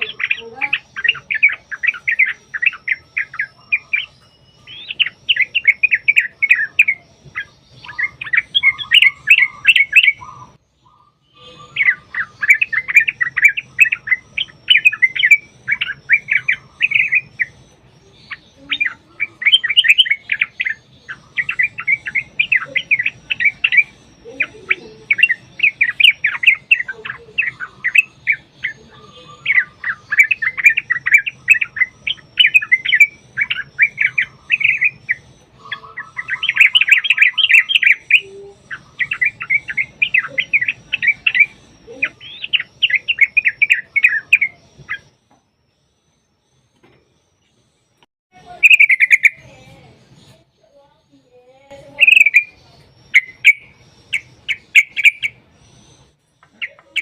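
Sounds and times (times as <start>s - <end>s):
bulbuls singing chattering song: 0.0s - 57.0s.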